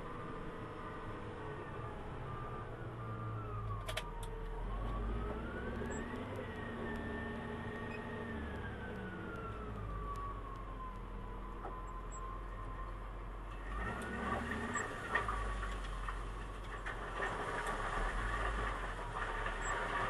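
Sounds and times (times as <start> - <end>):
deep engine rumble: 0.0 - 20.0
diesel engine whine revving: 0.0 - 20.0.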